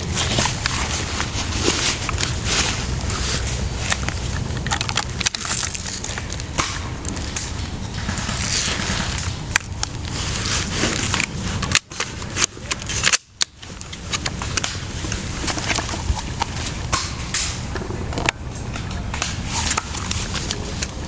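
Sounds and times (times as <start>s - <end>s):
rustling and crunching: 0.0s - 21.0s
sharp cracks and clicks: 1.5s - 21.0s.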